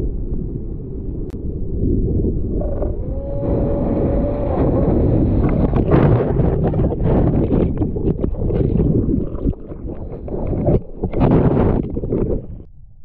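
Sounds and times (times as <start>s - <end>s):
ocean water sloshing and rushing: 0.2s - 12.7s.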